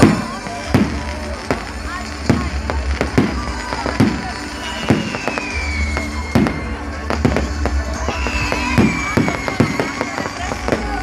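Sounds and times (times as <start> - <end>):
fireworks bangs: 0.0 - 11.0
whistling fireworks: 0.0 - 11.0.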